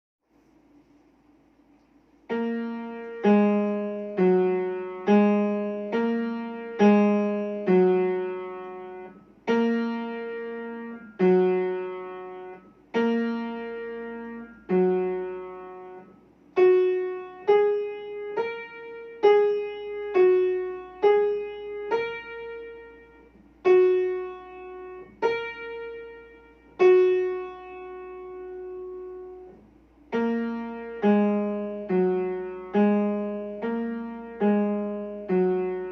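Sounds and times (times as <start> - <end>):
piano chords: 2.3 - 35.9.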